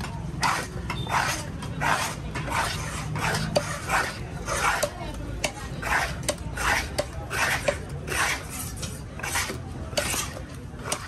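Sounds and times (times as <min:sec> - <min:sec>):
knife scraping wooden block: 0:00.0 - 0:11.0.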